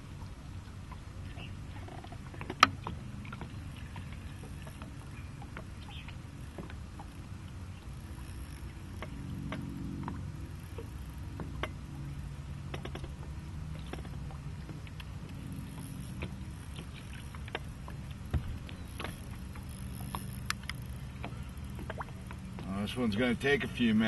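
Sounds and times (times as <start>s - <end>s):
low rumble of wind: 0.0s - 24.0s
small waves against a boat: 0.0s - 24.0s
faint clicks and knocks: 0.2s - 22.8s.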